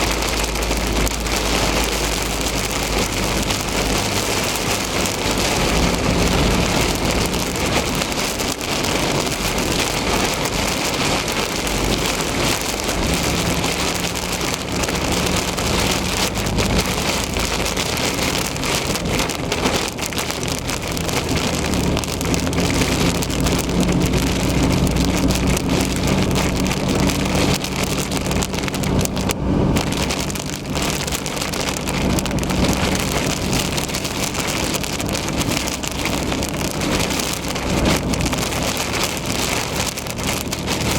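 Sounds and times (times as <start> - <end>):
heavy rain on car roof: 0.0 - 40.9
low car hum: 0.0 - 40.9.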